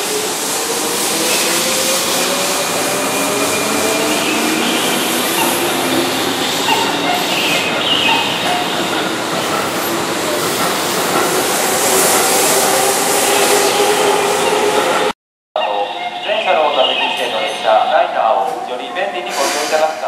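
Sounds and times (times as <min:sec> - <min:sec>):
train wheels rushing on rail: 0:00.0 - 0:15.2, 0:18.4 - 0:20.0.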